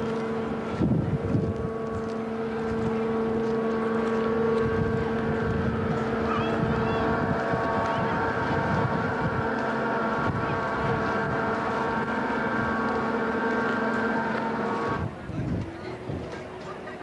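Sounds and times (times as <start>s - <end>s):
machine droning hum: 0.0s - 17.0s
wind buffeting microphone: 0.0s - 17.0s.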